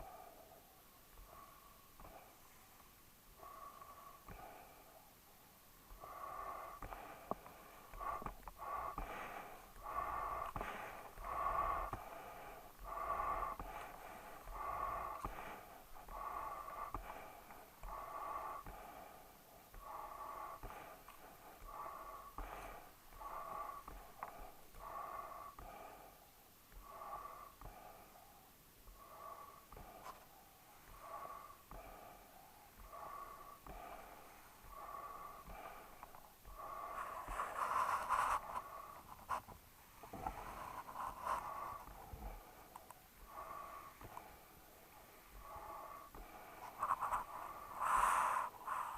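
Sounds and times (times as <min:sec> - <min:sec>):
dog breathing noisily: 0:05.8 - 0:48.9.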